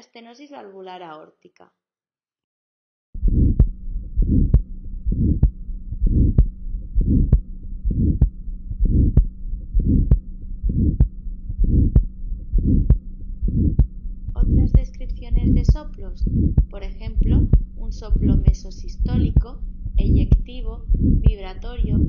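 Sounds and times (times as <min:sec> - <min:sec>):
harsh rushing heart murmur: 0:03.2 - 0:22.0
heartbeat through stethoscope: 0:03.2 - 0:22.0.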